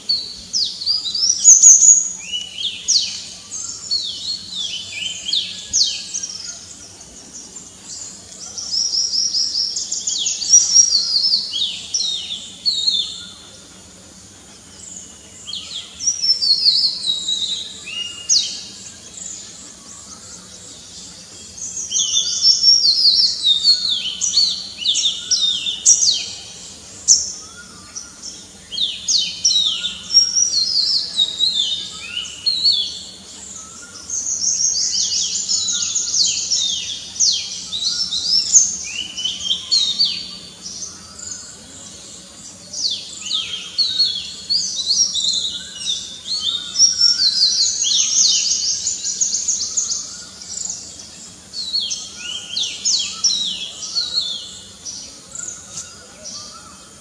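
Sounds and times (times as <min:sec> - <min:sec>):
magpie-robin singing: 0:00.0 - 0:06.8, 0:07.5 - 0:13.5, 0:14.8 - 0:42.0, 0:42.7 - 0:57.0.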